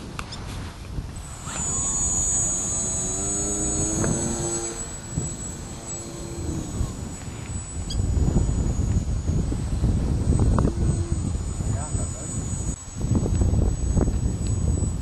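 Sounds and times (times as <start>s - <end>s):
model plane motor whine: 0.1s - 15.0s
droning plane flying past: 1.2s - 15.0s.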